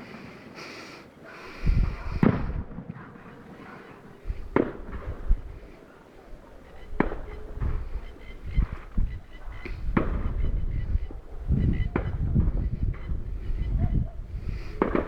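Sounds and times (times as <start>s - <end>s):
distant fireworks bangs and booms: 1.7s - 5.8s, 6.4s - 15.0s.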